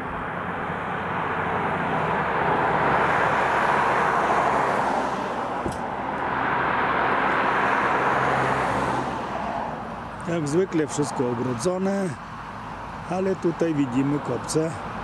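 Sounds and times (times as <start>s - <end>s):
passing vehicle: 0.0s - 15.0s.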